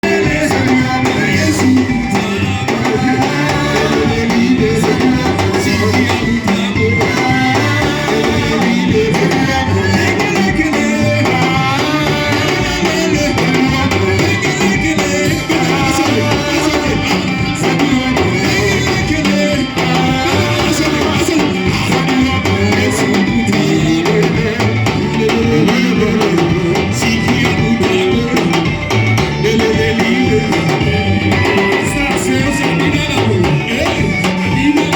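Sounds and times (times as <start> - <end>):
drum kit: 0.0 - 34.9
guitar: 0.0 - 34.9
people singing worship music: 0.0 - 34.9.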